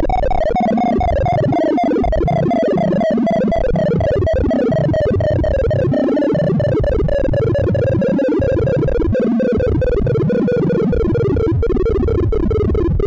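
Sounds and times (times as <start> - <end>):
rapid synthesized triangle-wave tones: 0.1 - 13.0.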